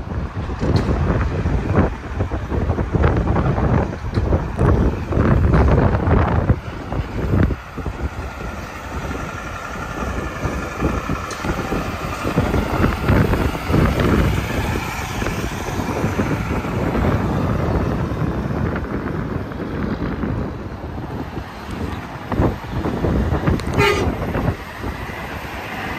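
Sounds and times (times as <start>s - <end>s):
highway traffic roar: 0.0s - 25.9s
wind buffeting microphone: 0.0s - 25.9s.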